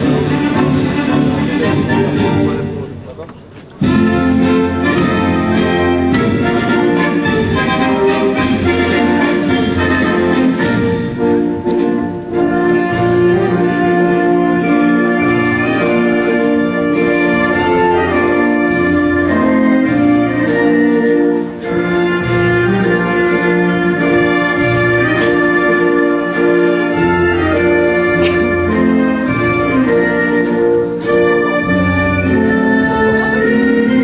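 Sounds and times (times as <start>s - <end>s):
orchestral music with held chords: 0.0s - 3.1s, 3.8s - 34.0s.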